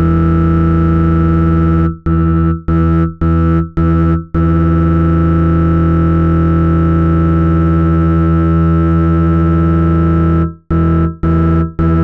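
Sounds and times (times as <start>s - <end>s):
low synthesized buzzing tone: 0.0s - 12.0s.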